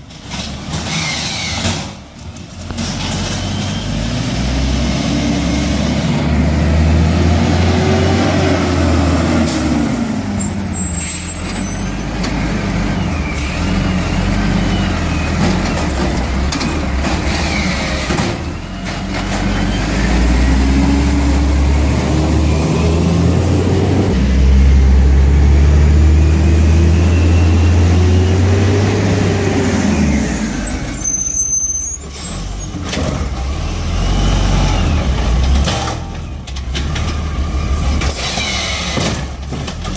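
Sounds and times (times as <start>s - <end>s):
garbage truck engine revving: 2.6s - 39.9s.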